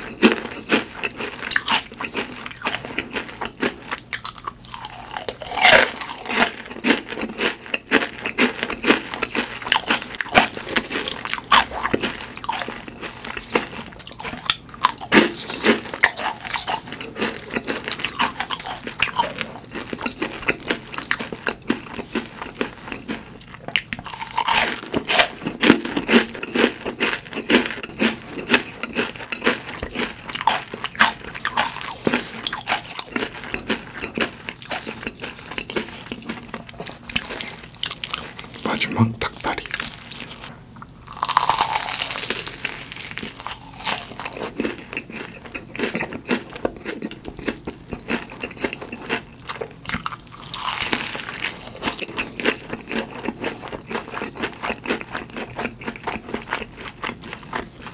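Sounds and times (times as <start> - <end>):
crunching crispy fried food: 0.0 - 57.9.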